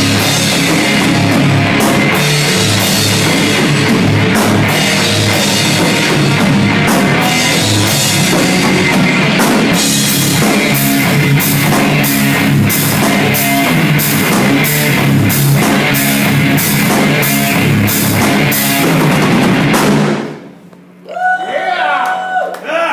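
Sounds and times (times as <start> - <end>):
heavy metal band playing live: 0.0 - 20.4.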